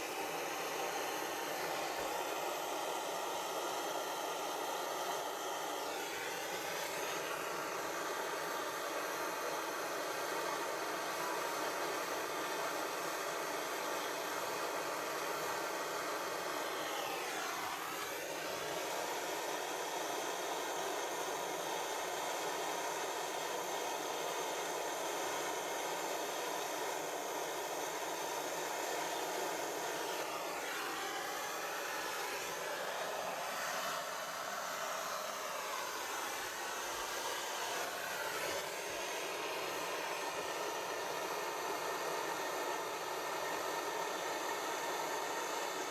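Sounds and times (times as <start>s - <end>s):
blow lamp hissing: 0.0s - 45.9s.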